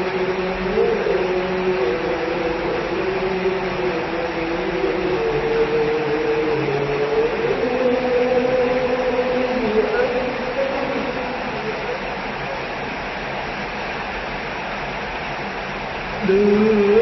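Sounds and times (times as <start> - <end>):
distant call to prayer: 0.0 - 17.0
steady rain: 0.0 - 17.0.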